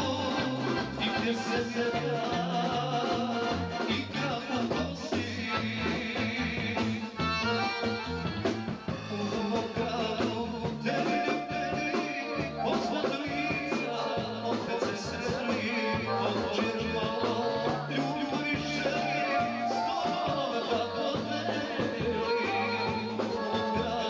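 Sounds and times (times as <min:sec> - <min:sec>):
man singing into microphone: 0:00.0 - 0:07.8, 0:08.9 - 0:24.0
live band with accordion: 0:00.0 - 0:24.0.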